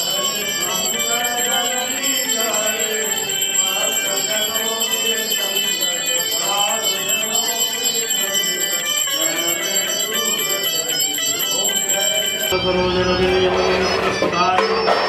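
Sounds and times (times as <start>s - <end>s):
bell ringing rapidly: 0.0s - 15.0s
voices singing: 0.0s - 15.0s.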